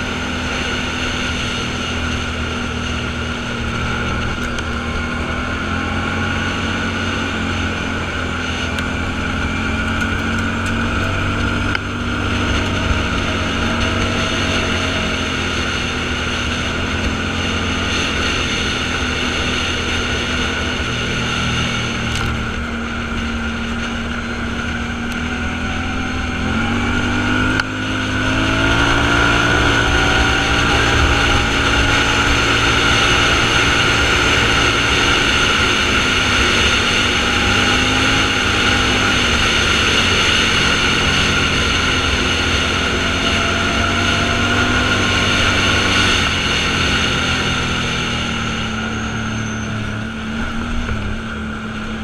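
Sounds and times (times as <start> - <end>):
off-road vehicle engine running: 0.0 - 52.0
wind noise: 0.0 - 52.0.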